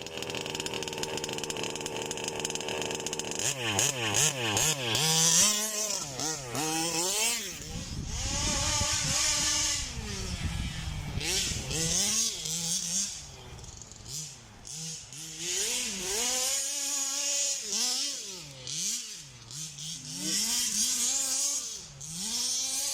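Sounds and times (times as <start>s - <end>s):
two-stroke engine revving: 0.0s - 22.9s.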